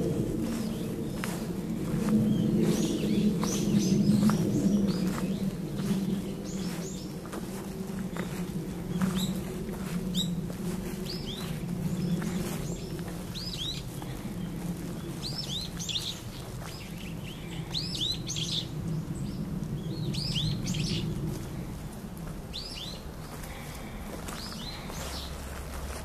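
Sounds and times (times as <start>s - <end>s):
songbirds chirping: 0.0s - 26.0s
steady low rumble: 0.0s - 26.0s.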